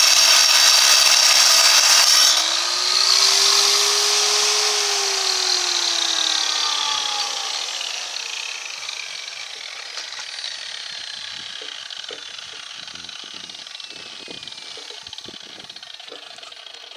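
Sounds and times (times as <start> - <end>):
angle grinder winding down: 0.0 - 16.9.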